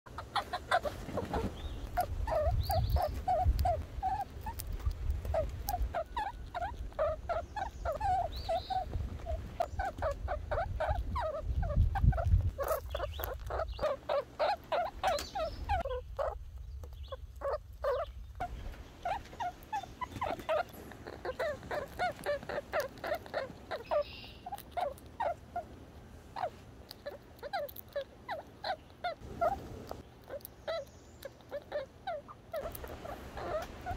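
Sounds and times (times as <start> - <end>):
squirrel chattering: 0.1 - 25.8, 26.4 - 33.9.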